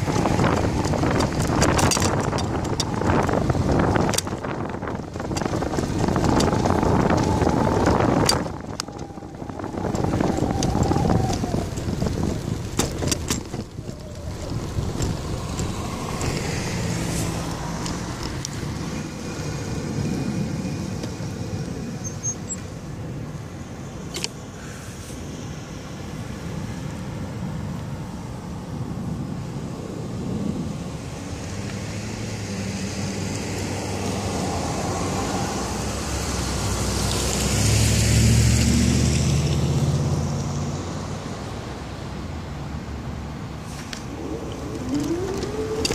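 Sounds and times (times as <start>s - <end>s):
wind buffeting microphone: 0.0s - 24.6s, 25.2s - 45.9s
cars driving by: 0.0s - 45.9s.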